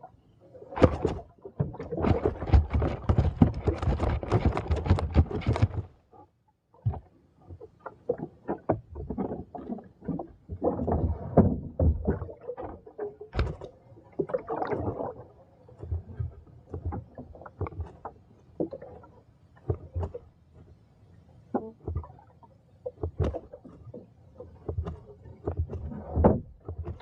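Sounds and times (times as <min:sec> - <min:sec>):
water splashing against boat: 0:00.0 - 0:06.2, 0:06.8 - 0:27.0.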